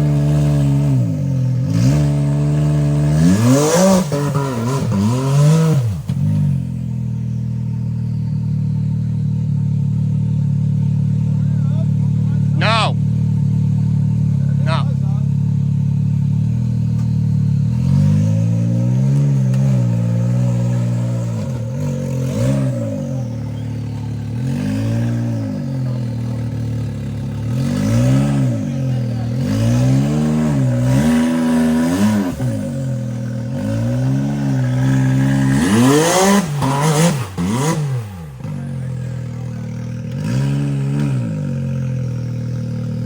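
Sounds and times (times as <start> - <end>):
utv engine revving: 0.0 - 43.0.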